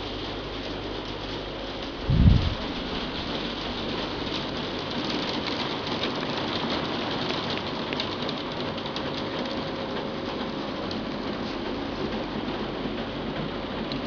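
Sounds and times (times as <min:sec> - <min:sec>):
hail drumming on glass roof: 0:00.0 - 0:14.0.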